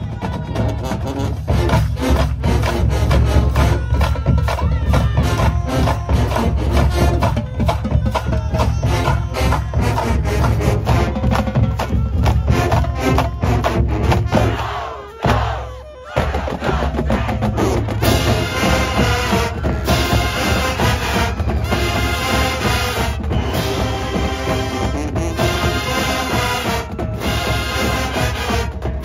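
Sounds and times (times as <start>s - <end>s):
drumline beat: 0.0s - 29.0s
marching band playing: 0.0s - 29.0s.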